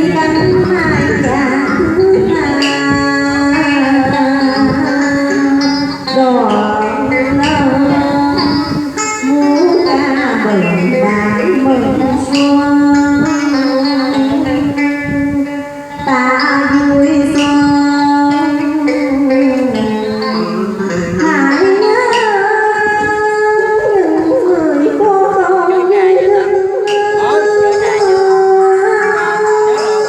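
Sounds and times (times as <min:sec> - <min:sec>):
plucked string notes: 0:00.0 - 0:30.0
sliding held melodic line: 0:00.0 - 0:30.0.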